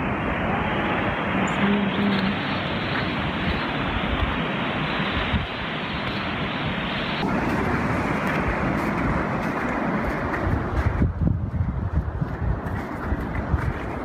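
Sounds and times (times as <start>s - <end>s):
wind and surf rushing: 0.0s - 14.0s
wind buffeting microphone: 0.0s - 14.0s.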